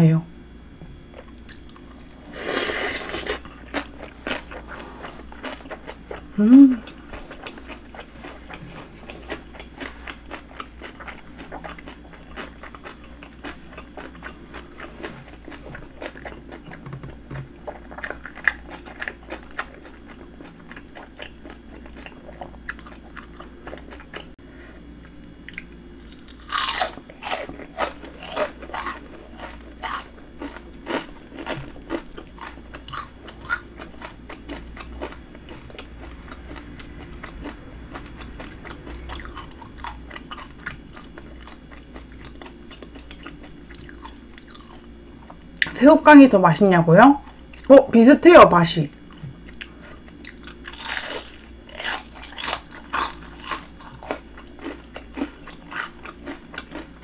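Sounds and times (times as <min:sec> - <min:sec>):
person chewing crunchy food: 0:01.0 - 0:45.8, 0:47.2 - 0:47.8, 0:48.9 - 0:57.0.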